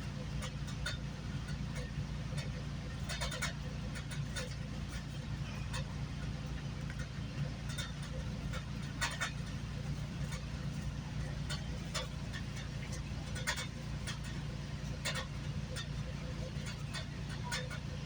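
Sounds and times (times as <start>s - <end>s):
train low rumble from on board: 0.0s - 18.0s
clicks and rattles: 0.4s - 18.0s.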